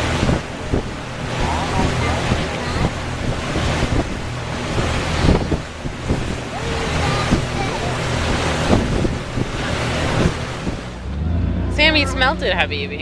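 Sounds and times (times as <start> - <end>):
water splashing and rushing: 0.0 - 13.0
wind buffeting the microphone: 0.0 - 13.0.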